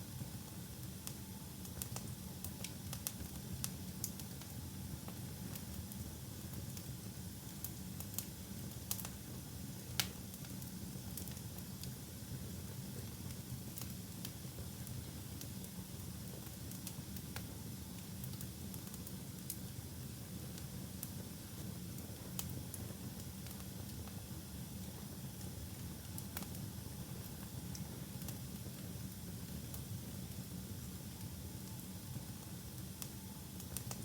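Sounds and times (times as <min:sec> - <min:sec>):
fire crackles and pops: 0:01.0 - 0:04.5, 0:05.1 - 0:34.0.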